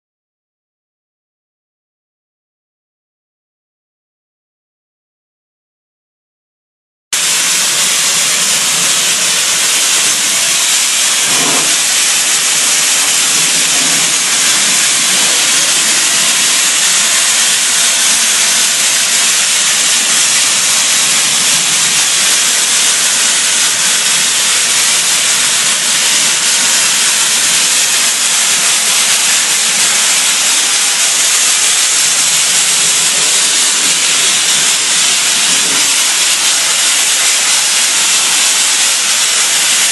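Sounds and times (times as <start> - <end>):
compressed air blaster hissing: 7.2 - 39.9.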